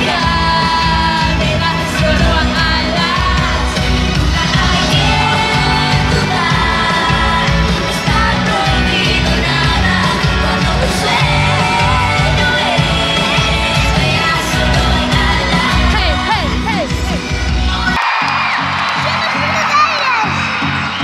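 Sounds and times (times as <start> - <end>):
person singing: 0.0 - 17.2
girls yelling and singing along: 0.0 - 20.5
live pop music with heavy bass: 0.0 - 21.0.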